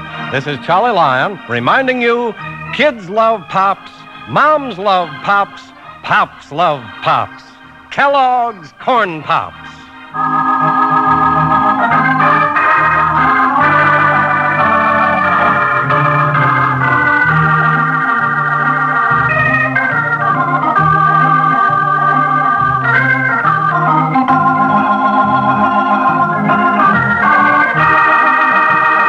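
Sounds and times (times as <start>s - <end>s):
organ melody over repeating bass: 0.0s - 29.0s.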